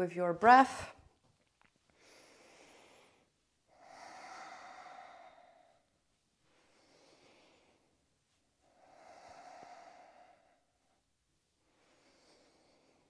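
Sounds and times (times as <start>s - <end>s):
woman breathing: 1.9s - 13.0s.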